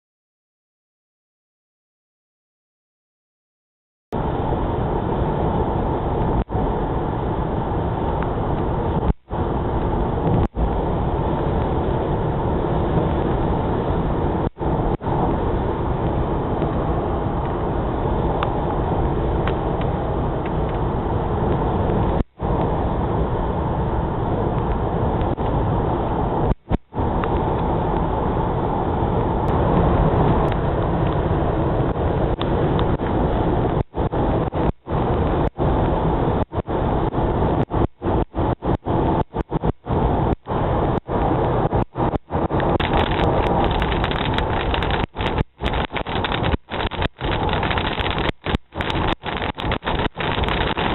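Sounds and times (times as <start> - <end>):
heavy rain: 4.2 - 50.9.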